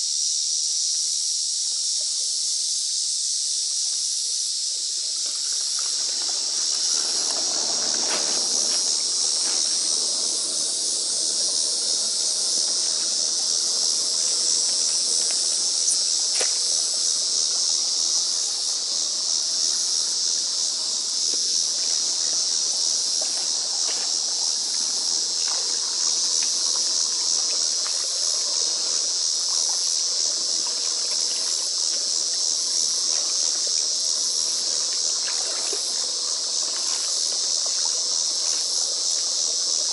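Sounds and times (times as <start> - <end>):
insect chorus: 0.0 - 39.9
splashes in shallow water: 5.0 - 19.5, 20.1 - 39.9.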